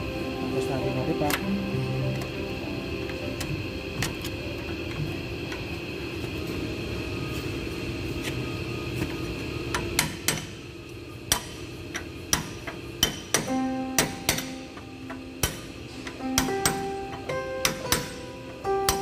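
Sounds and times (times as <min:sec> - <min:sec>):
workshop hum: 0:00.0 - 0:19.0.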